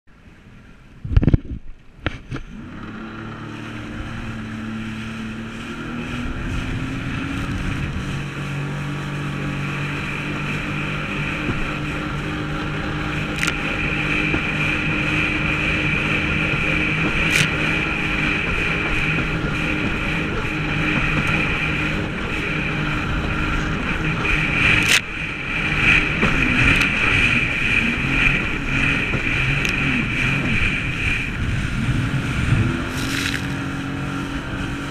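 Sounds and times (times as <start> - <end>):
water and wind rushing: 0.1 - 34.9
watercraft engine at speed: 0.1 - 34.9.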